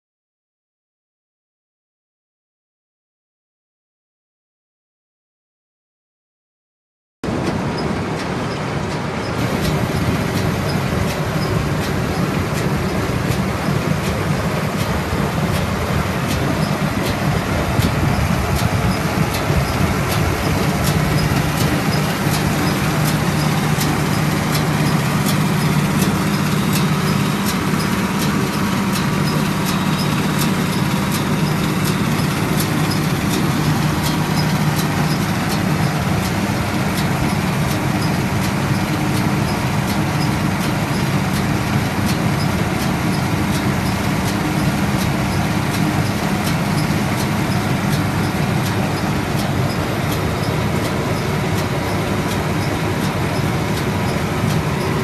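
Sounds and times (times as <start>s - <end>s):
baler machinery running: 7.2s - 55.0s
tractor engine running: 7.2s - 55.0s
light machinery clicking: 7.3s - 55.0s.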